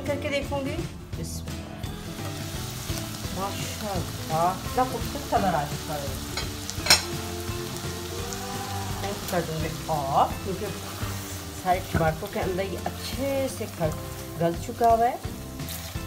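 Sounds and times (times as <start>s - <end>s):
food sizzling and bubbling in pot: 2.0s - 16.0s.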